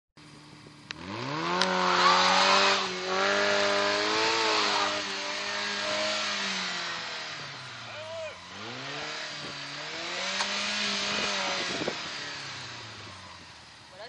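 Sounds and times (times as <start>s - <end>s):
car engine revving hard: 0.9s - 13.7s.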